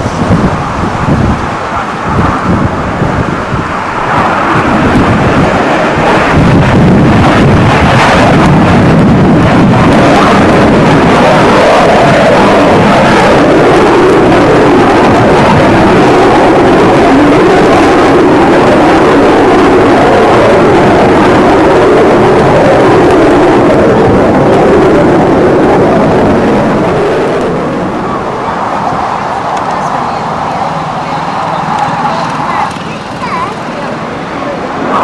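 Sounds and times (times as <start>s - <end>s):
jet flying overhead: 0.0s - 35.0s.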